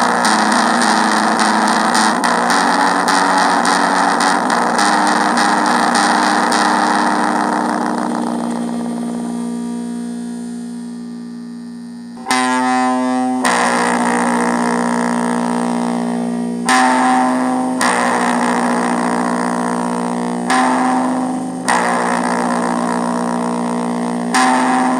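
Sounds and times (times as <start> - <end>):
electric guitar chords with effects: 0.0 - 24.9.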